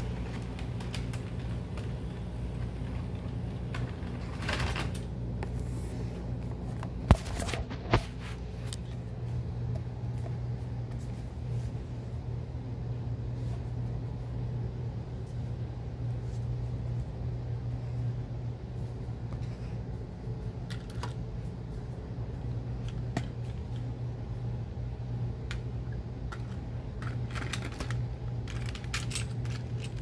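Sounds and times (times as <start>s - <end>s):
low electric hum: 0.0s - 30.0s.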